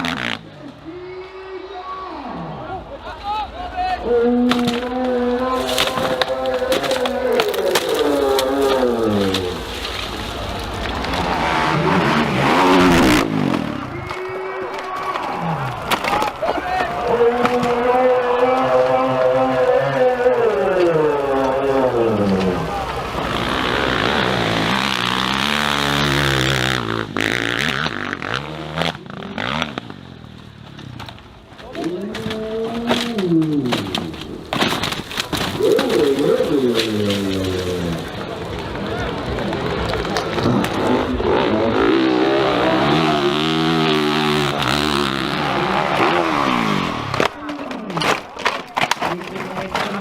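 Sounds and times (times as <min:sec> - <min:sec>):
dirt bike engine revving: 0:00.0 - 0:00.8, 0:04.1 - 0:15.9, 0:17.0 - 0:34.5, 0:35.2 - 0:47.4.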